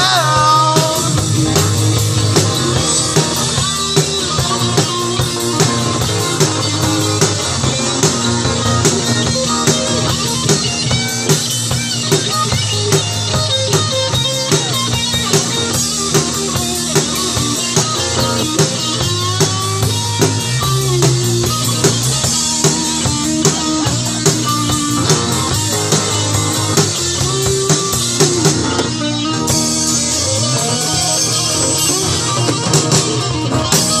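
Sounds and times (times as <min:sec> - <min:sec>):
drum kit beat: 0:00.0 - 0:34.0
electric guitar: 0:00.0 - 0:34.0.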